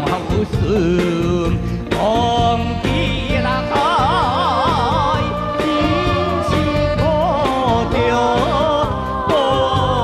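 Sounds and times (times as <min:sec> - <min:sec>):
person singing: 0:00.0 - 0:10.0
pop band accompaniment: 0:00.0 - 0:10.0.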